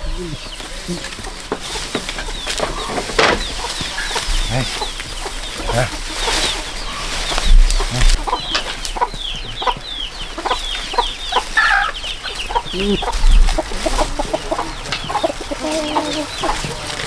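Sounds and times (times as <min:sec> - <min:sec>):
high falling chirps: 0:00.0 - 0:16.8
chickens clucking: 0:00.0 - 0:17.0
dull low bumps: 0:00.0 - 0:17.0.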